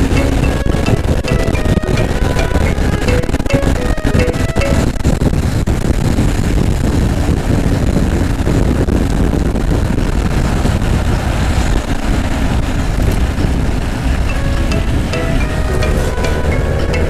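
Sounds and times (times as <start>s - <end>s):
rushing wind and road noise: 0.0s - 17.0s.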